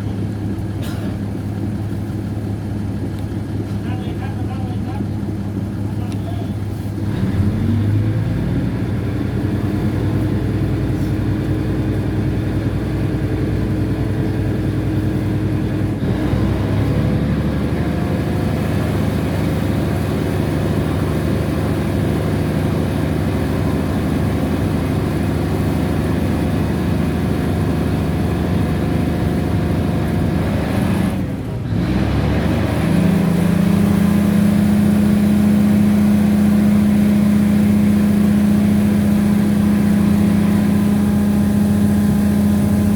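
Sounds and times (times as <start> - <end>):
train diesel engine humming: 0.0 - 42.9.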